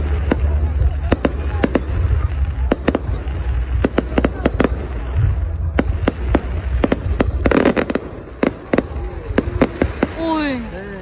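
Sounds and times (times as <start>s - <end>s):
fireworks bangs: 0.0s - 11.0s
fireworks crackling: 0.0s - 11.0s
low rumble: 0.0s - 11.0s.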